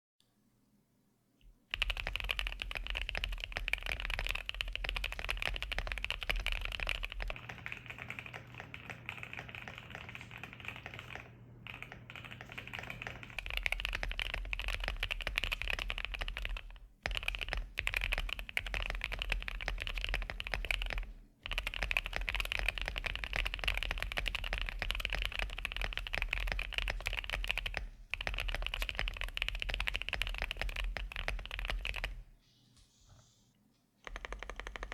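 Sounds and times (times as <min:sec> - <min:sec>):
typing on mechanical keyboard: 0:01.7 - 0:32.2, 0:34.0 - 0:34.9.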